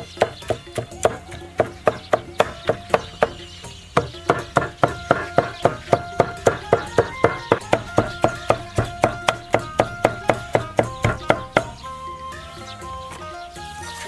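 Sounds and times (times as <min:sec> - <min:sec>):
cleaver chopping on wooden board: 0:00.0 - 0:11.9.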